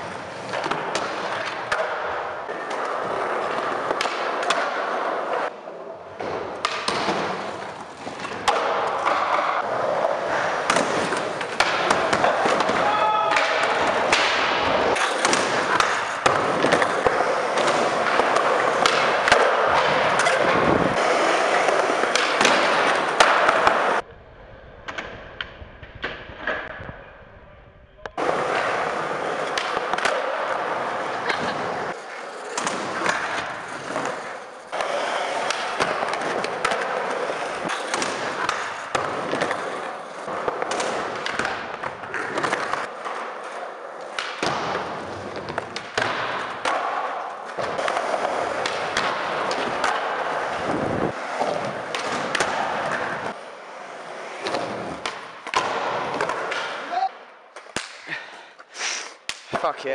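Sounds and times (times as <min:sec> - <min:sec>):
skateboard clacks: 0:00.0 - 0:24.0, 0:28.1 - 0:58.1
skateboard wheels rolling on concrete: 0:00.0 - 0:27.4, 0:28.0 - 0:59.9.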